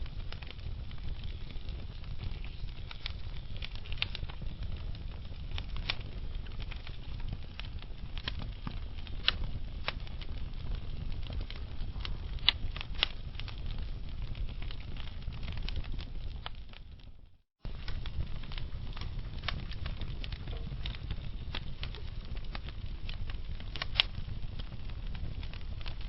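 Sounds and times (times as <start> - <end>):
fire crackling and popping: 0.0 - 26.0
low steady fire rumble: 0.0 - 26.0.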